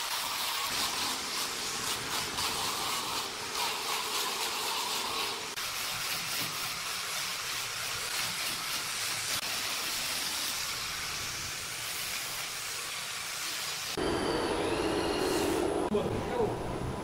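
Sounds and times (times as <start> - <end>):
angle grinder sanding wood: 0.0 - 13.9.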